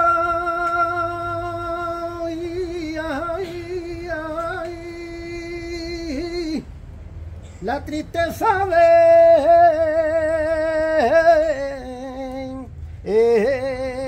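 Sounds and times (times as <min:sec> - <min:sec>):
solo voice singing unaccompanied: 0:00.0 - 0:06.7, 0:07.6 - 0:14.0.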